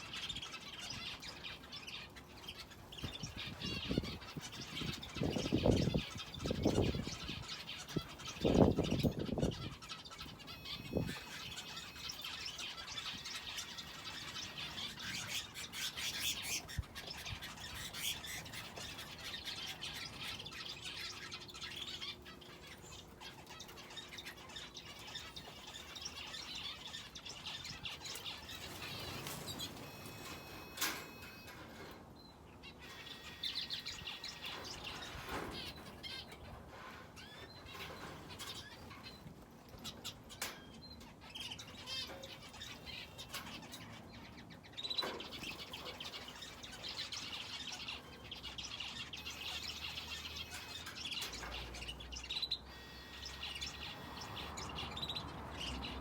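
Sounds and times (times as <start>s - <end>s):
finches and canary chirping: 0.0s - 56.0s.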